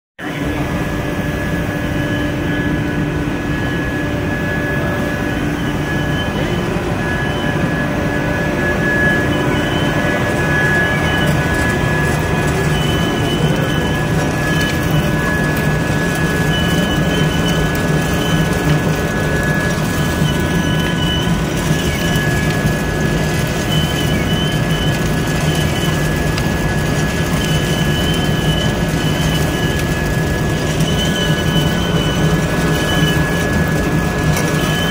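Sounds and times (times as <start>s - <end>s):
high whine: 0.2s - 34.9s
high whistle: 0.2s - 34.9s
loud machinery noise: 0.2s - 34.9s.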